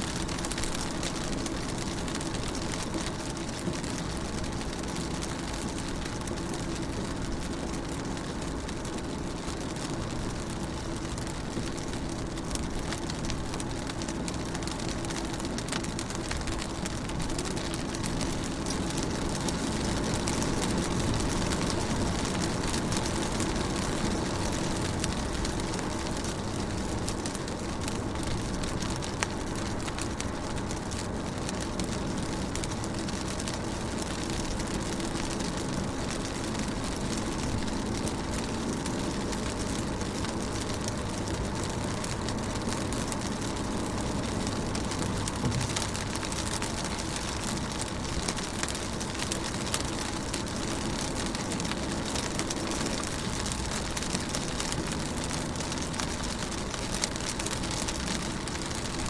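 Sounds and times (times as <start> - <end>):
rain on a car from inside: 0.0 - 59.0.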